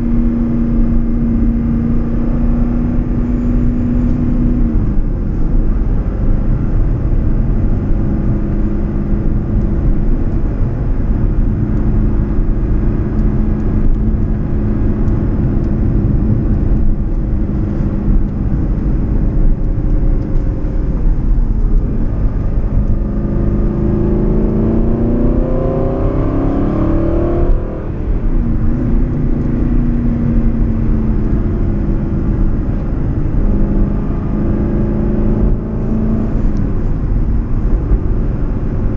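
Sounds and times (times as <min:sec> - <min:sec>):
car engine cruising: 0:00.0 - 0:38.9
tyre and road noise: 0:00.0 - 0:38.9.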